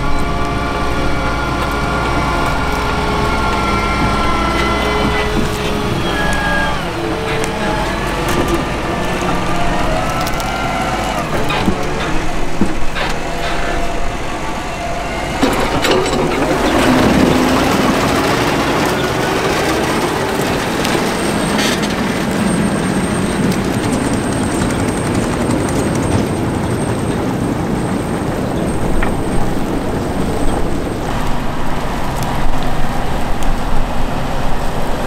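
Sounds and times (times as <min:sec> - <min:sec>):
potato harvester running: 0:00.0 - 0:35.0
tractor engine: 0:00.0 - 0:35.0.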